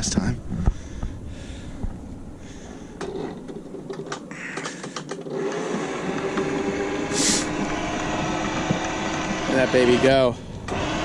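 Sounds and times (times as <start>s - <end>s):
motor hum: 0.7s - 11.0s.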